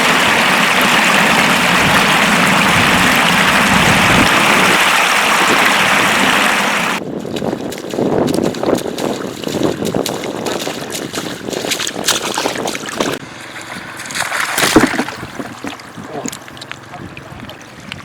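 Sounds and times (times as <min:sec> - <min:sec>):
shallow water splashing: 0:00.0 - 0:18.0.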